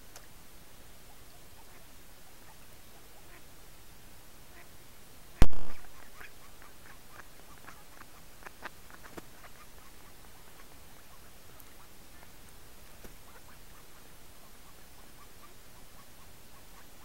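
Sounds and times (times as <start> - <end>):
ducks quacking faintly: 0.8 - 17.0.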